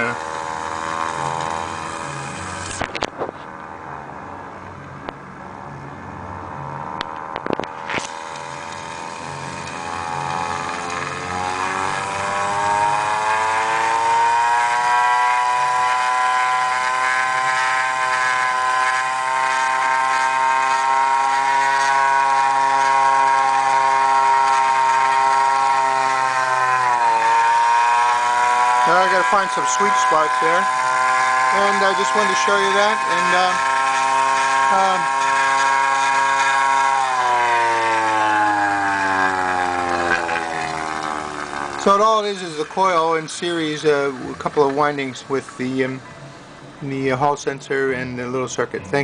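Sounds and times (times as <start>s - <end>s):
motor whine: 0.0s - 49.0s.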